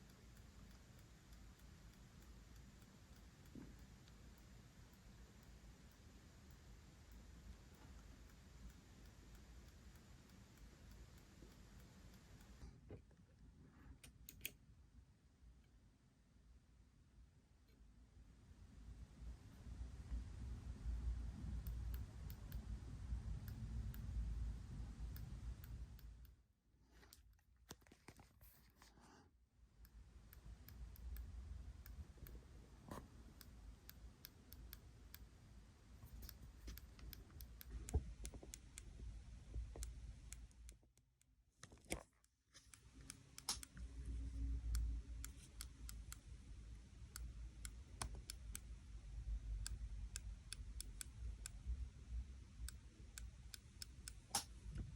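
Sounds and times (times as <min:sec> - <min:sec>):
faint irregular clicking: 0:00.0 - 0:14.6, 0:19.5 - 0:28.9, 0:29.8 - 0:54.9.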